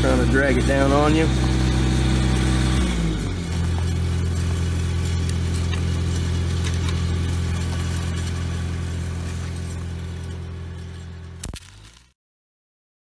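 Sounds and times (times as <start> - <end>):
welding generator engine hum: 0.0 - 12.2.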